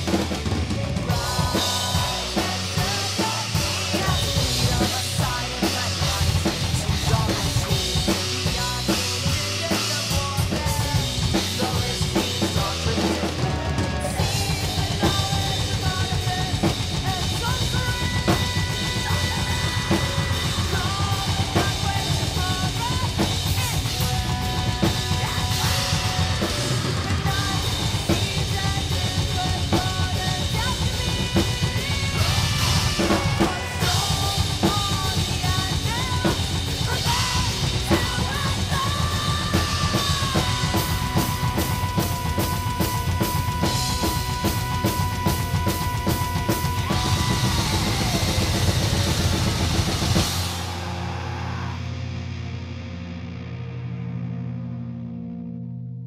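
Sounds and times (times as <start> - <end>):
distorted guitars: 0.0 - 56.0.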